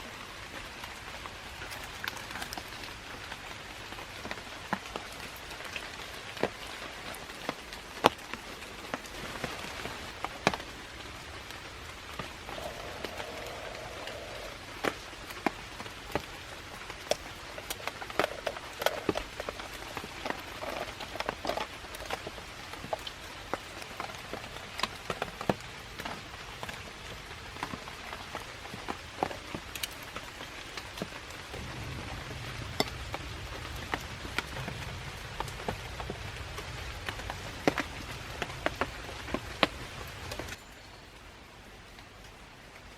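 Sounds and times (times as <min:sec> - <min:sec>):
campfire crackling and popping: 0:00.4 - 0:40.6.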